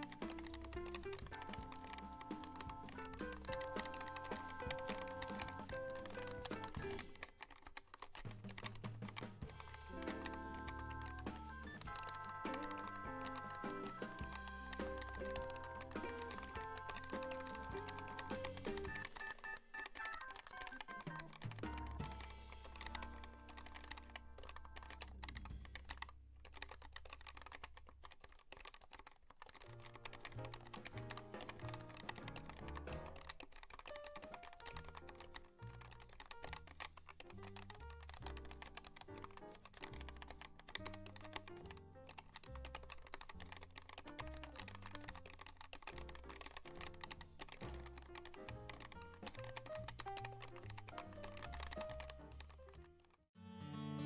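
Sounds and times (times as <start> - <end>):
background music: 0.0 - 7.3, 8.3 - 26.0, 34.1 - 54.0
mechanical keyboard typing: 0.0 - 53.3.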